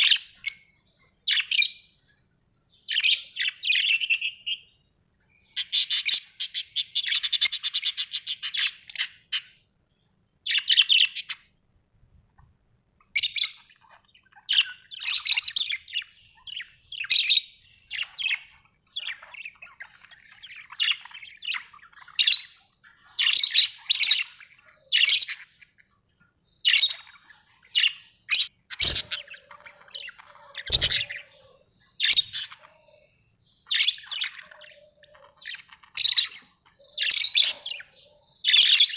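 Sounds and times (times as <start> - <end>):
birds chirping and squawking: 0.0 - 11.6, 13.0 - 38.9.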